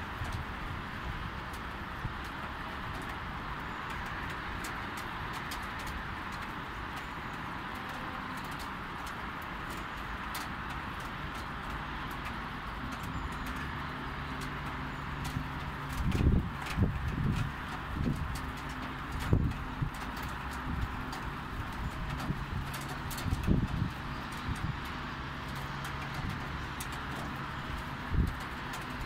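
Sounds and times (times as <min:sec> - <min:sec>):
raindrops ticking on surfaces: 0:00.0 - 0:29.0.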